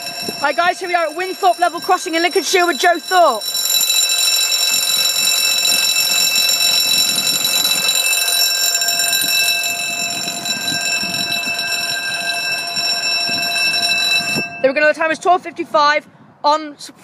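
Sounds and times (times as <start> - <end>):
level crossing alarm bell ringing: 0.0 - 15.1.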